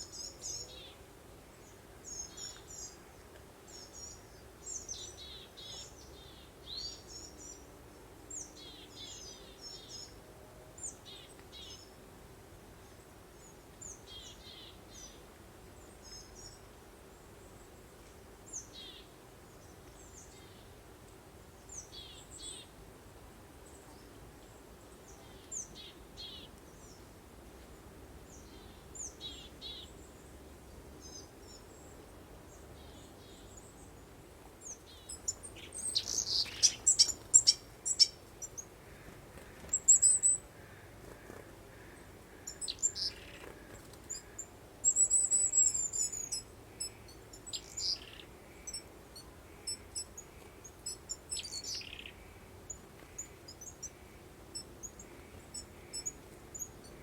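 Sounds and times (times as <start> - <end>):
faint breeze: 0.0 - 57.0
songbirds chirping: 0.0 - 57.0.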